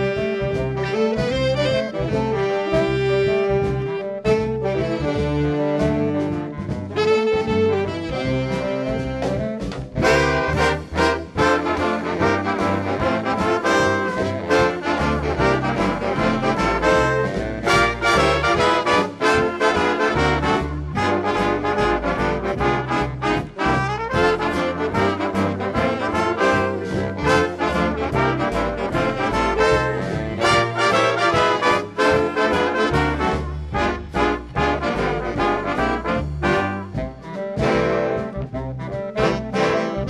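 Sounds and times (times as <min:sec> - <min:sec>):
big band swing music: 0:00.0 - 0:40.0.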